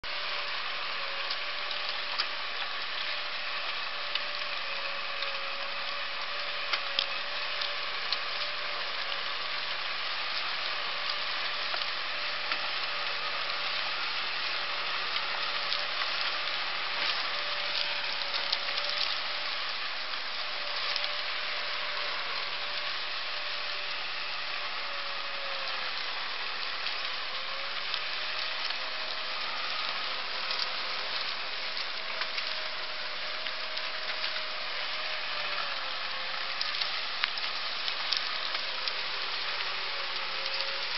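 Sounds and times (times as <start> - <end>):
plough crackling hiss: 0.0 - 40.9
tractor diesel engine running: 0.0 - 40.9.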